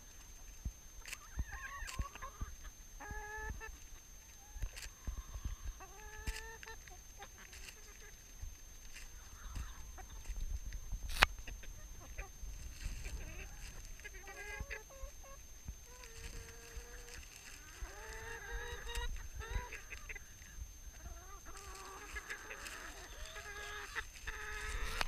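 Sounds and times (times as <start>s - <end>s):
hens clucking and calling: 0.0s - 25.0s.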